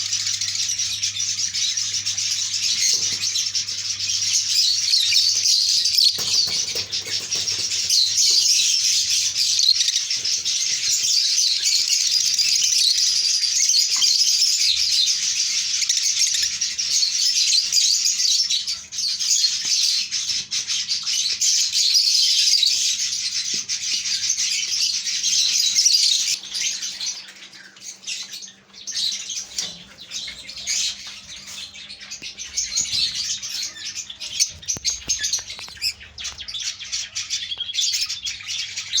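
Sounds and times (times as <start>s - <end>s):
flock of birds chattering: 0.0s - 39.0s.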